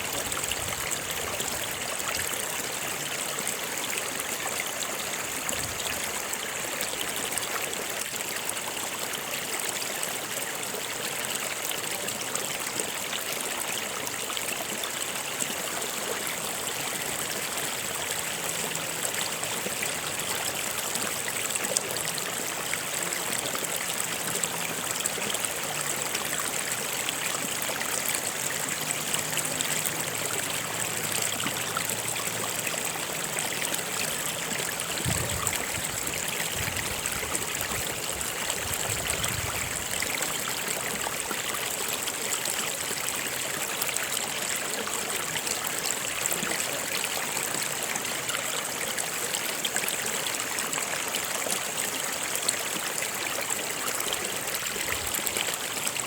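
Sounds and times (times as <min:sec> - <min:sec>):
stream of water trickling: 0:00.0 - 0:56.0.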